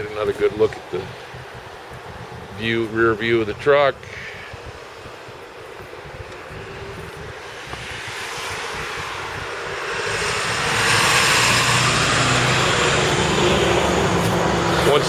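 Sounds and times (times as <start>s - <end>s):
passing vehicle engine hum: 0.0s - 15.0s.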